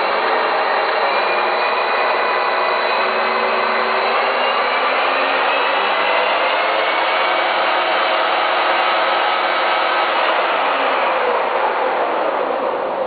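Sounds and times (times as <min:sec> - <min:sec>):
lathe whirring: 0:00.0 - 0:13.0
whining gear tones: 0:00.0 - 0:13.0.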